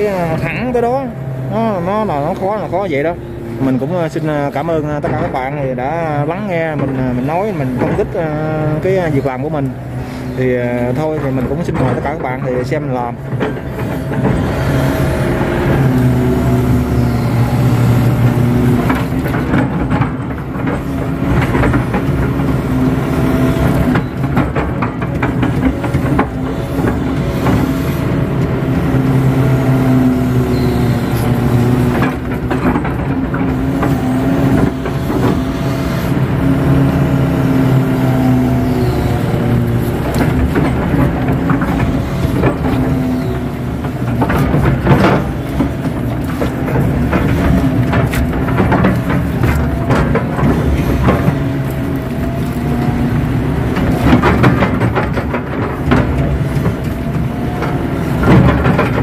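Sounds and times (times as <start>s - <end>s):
excavator diesel engine: 0.0s - 59.0s
hydraulic whine: 0.0s - 59.0s.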